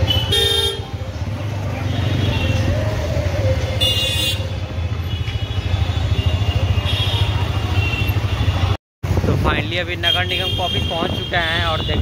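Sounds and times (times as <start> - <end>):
vehicle road rumble: 0.0 - 12.0.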